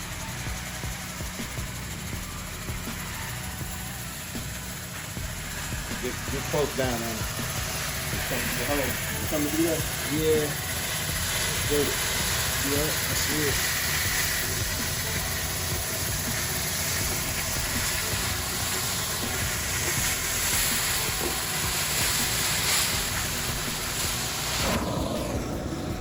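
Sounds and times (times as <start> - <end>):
carpet extractor suction and spray: 0.0 - 26.0
faint high whine: 0.0 - 26.0.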